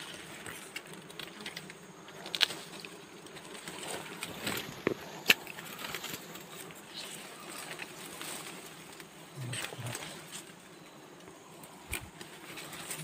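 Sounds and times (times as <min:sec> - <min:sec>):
twigs and leaves rustling: 0:00.0 - 0:13.0.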